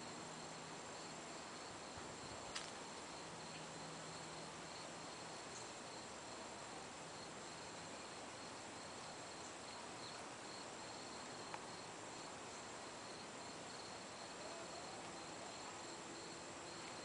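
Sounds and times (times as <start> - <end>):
background hiss: 0.0 - 17.0
crickets chirping: 0.0 - 17.0.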